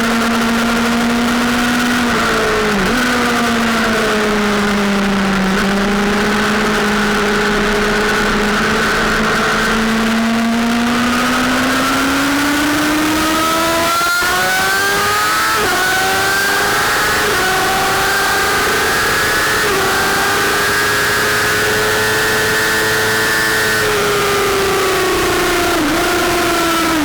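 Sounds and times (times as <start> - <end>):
sportbike engine revving: 0.0 - 27.0
gear changes: 0.1 - 27.0.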